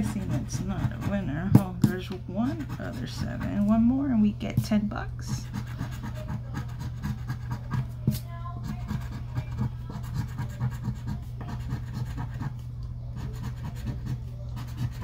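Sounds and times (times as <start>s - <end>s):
scratching a lottery ticket: 0.0s - 3.9s, 4.6s - 15.0s
steady low hum: 0.0s - 15.0s.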